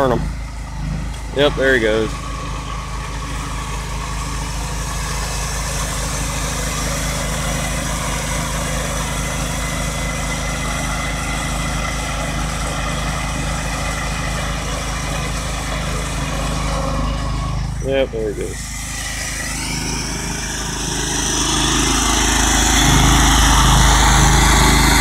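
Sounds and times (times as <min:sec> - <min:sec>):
riding lawn mower engine running: 0:00.0 - 0:25.0.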